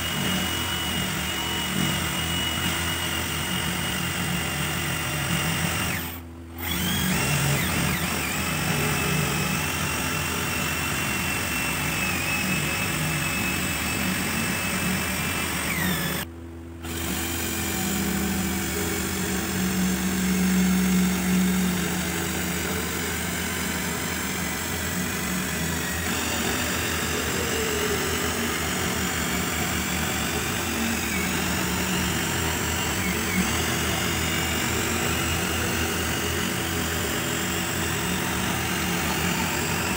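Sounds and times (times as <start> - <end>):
electric drill motor whine: 0.0 - 39.9
wood being shaved: 0.0 - 39.9.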